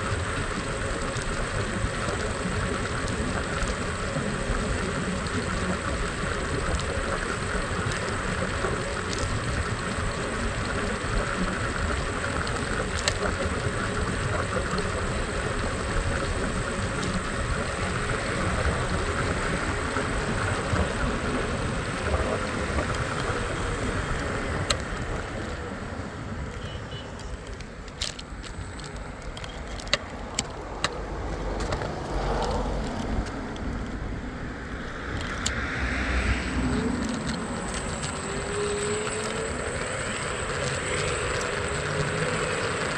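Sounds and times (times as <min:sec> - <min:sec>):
scooter engine and road noise: 0:00.0 - 0:42.9
surrounding cars: 0:00.0 - 0:42.9.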